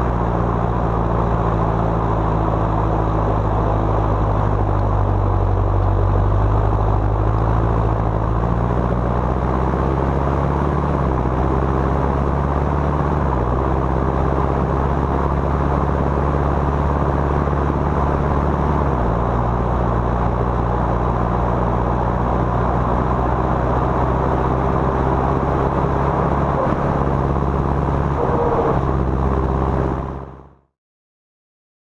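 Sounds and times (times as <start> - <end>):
tractor diesel engine under load: 0.0 - 30.6.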